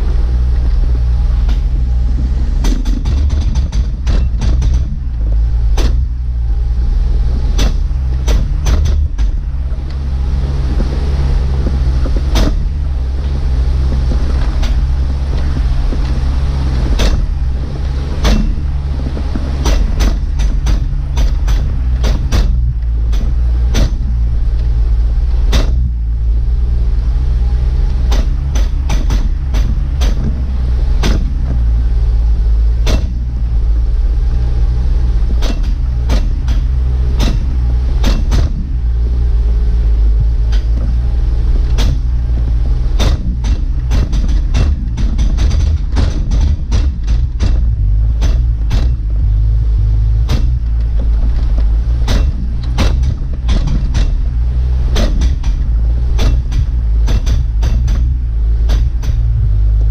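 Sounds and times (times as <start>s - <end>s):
car engine running: 0.0s - 59.9s
sharp knocks: 1.3s - 24.8s, 25.4s - 26.1s, 27.7s - 33.6s, 34.7s - 39.2s, 40.2s - 59.5s.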